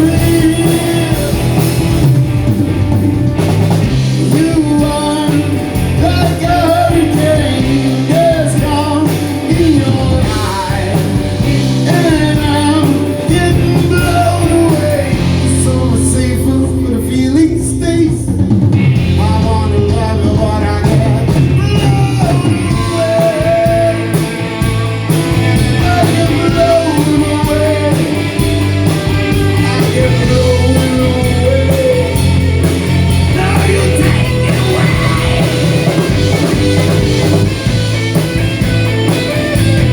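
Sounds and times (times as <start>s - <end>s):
person singing: 0.0s - 2.2s, 4.1s - 24.4s, 25.4s - 28.4s, 29.0s - 37.3s
blues-rock band playing: 0.0s - 39.9s.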